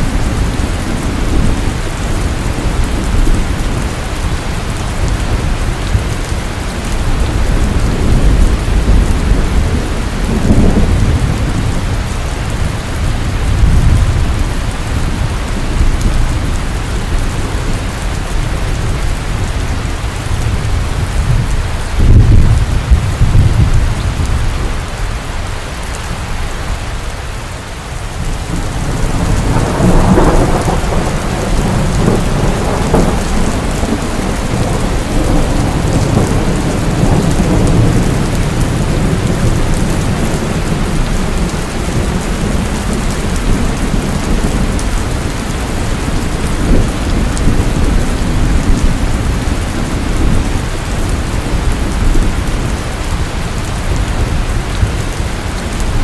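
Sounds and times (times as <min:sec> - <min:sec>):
rumbling thunder: 0:00.0 - 0:24.9, 0:28.1 - 0:56.0
heavy rain: 0:00.0 - 0:56.0.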